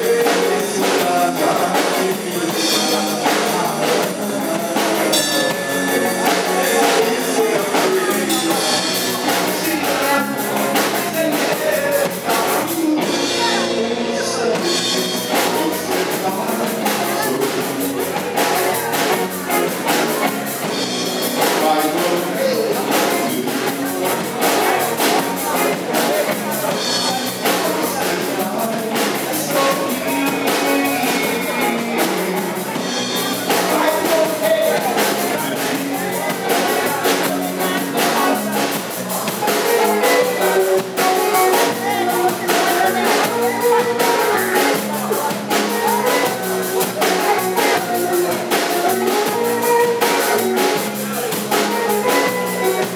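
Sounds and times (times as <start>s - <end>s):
drums steady beat: 0.0s - 52.9s
live rock band playing: 0.0s - 52.9s.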